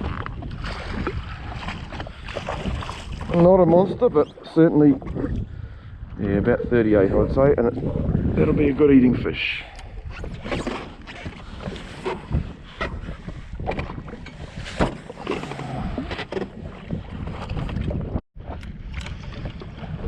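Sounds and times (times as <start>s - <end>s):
water around jet ski: 0.0s - 20.0s
wind on microphone: 0.0s - 20.0s.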